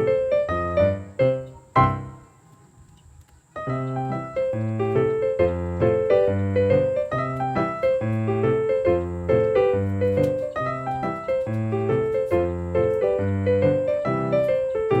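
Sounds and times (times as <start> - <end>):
piano music: 0.0 - 2.5, 3.6 - 15.0.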